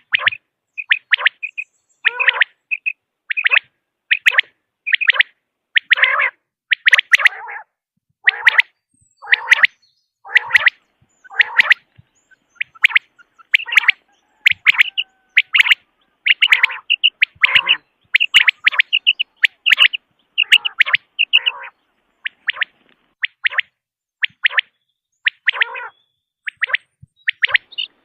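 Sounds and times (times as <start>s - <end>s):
quail calling: 0.0s - 28.0s.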